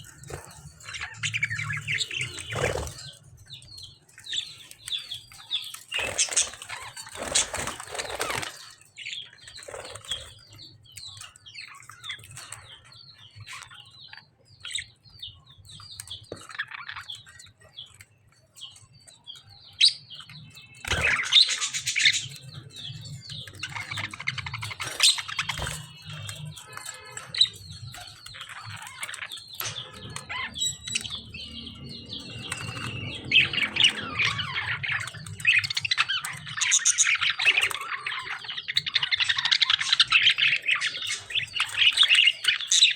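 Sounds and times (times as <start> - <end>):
small parrots chirping rapidly: 0.0 - 18.0, 18.7 - 42.9.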